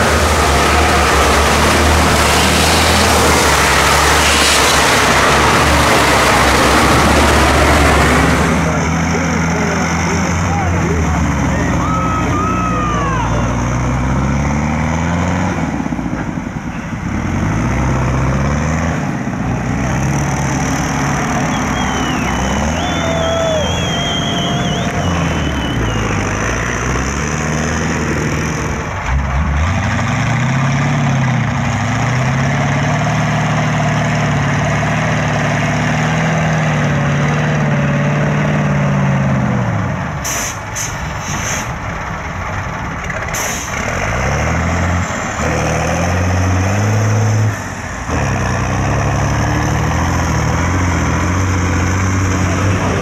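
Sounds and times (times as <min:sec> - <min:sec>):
truck engines revving: 0:00.0 - 0:53.0.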